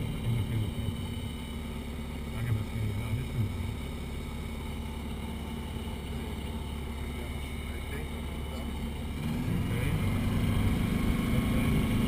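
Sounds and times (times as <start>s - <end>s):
plane engine running: 0.0s - 12.0s.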